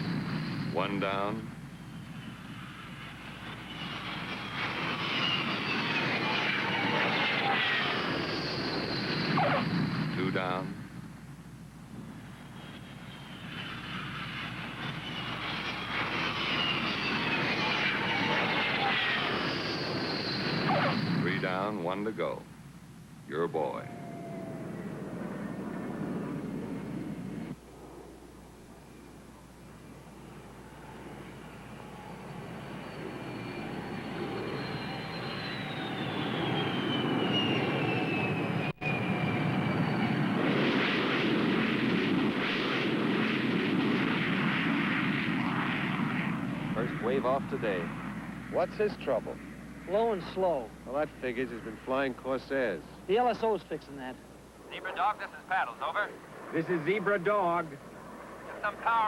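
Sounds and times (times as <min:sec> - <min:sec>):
jet fighter engine whine: 0:00.0 - 0:59.0.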